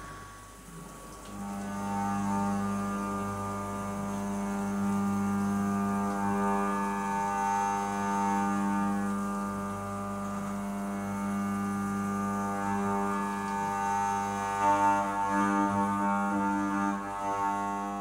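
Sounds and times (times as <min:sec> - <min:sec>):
milling machine cutting metal: 0:00.0 - 0:18.0.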